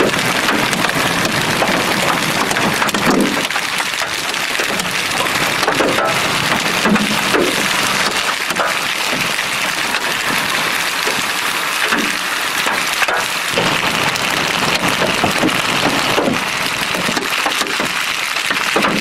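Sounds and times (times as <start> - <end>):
hailstones ticking: 0.0 - 19.0
heavy rain hissing: 0.0 - 19.0.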